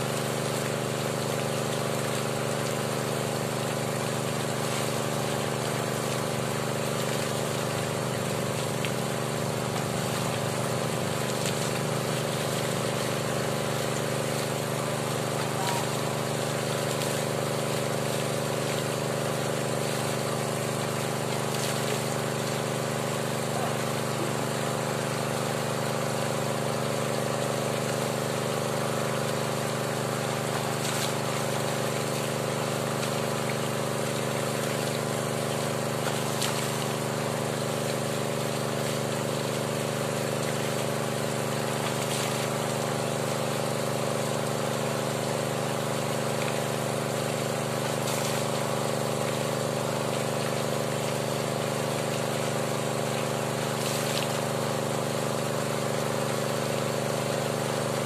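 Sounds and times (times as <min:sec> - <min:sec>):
engine-driven water pump running: 0:00.0 - 0:58.0.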